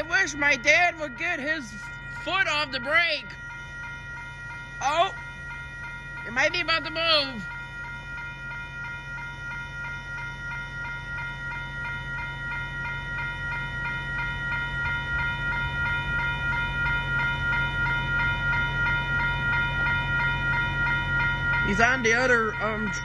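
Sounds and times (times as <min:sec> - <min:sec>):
crossing warning bells ringing: 0:00.0 - 0:23.0
train low rumble: 0:00.0 - 0:23.0.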